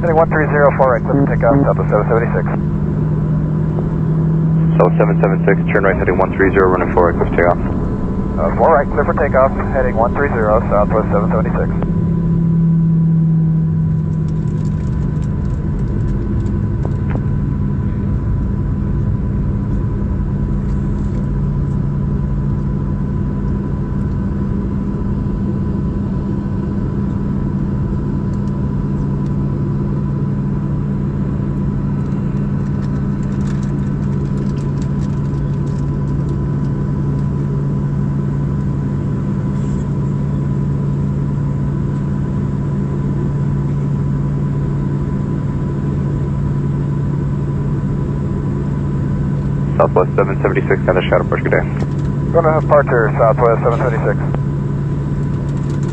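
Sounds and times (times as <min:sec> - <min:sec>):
jet engines at takeoff power: 0:00.0 - 0:55.9.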